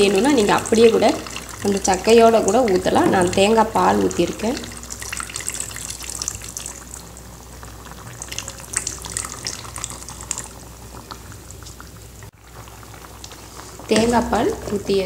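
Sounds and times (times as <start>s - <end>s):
liquid pouring into a pan: 0.0s - 14.0s
curry bubbling and crackling: 0.0s - 15.0s.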